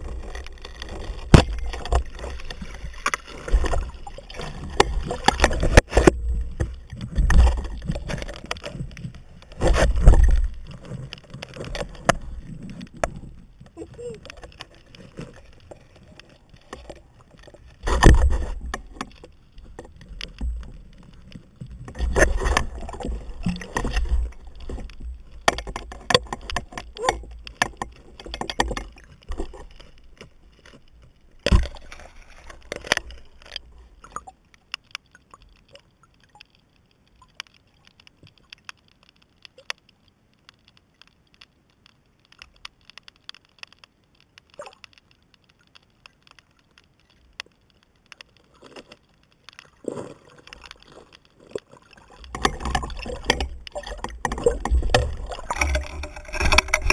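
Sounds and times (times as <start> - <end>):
underwater water sloshing: 0.0 - 39.9, 41.8 - 56.9.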